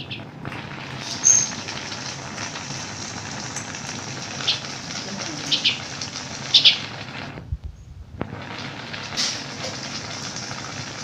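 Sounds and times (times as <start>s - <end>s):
food simmering and bubbling: 0.0s - 7.5s, 8.2s - 11.0s.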